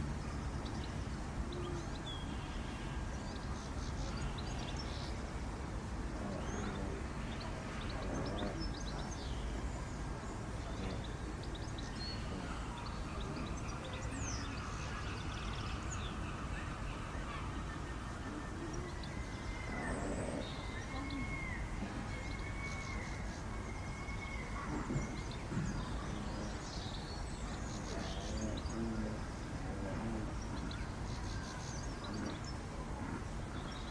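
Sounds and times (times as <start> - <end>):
faint distant voices: 0.0 - 33.9
small birds chirping: 0.0 - 33.9.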